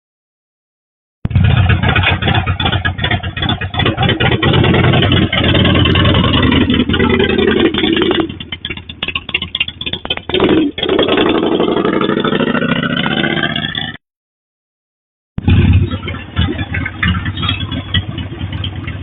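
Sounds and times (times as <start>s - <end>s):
engine running unevenly: 1.2s - 14.0s, 15.4s - 19.0s.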